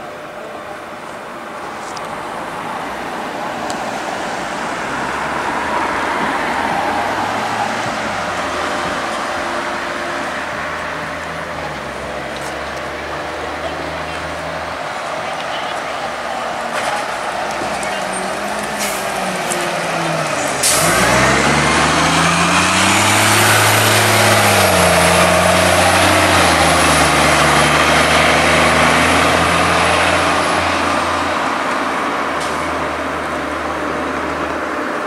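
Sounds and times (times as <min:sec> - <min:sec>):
bus engine accelerating: 0:00.0 - 0:35.0.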